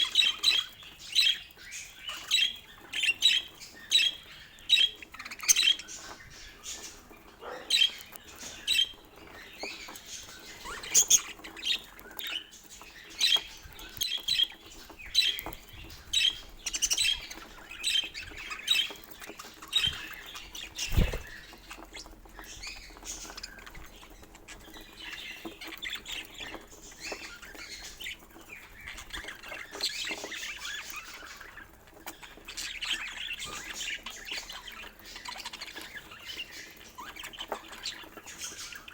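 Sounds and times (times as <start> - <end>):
budgerigars chirping and squawking: 0.0 - 38.9
budgerigars warbling chatter: 0.0 - 38.9.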